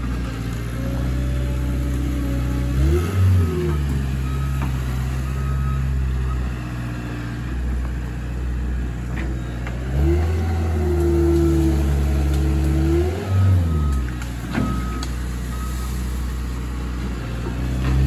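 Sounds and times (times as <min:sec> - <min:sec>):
loader diesel engine revving: 0:00.0 - 0:18.0.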